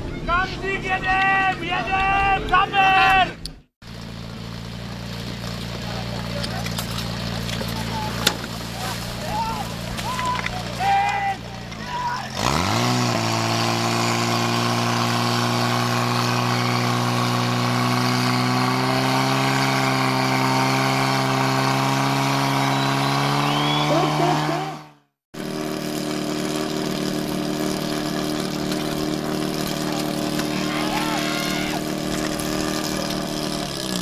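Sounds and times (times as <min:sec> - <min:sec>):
pump engine running at high revs: 0:03.8 - 0:34.0.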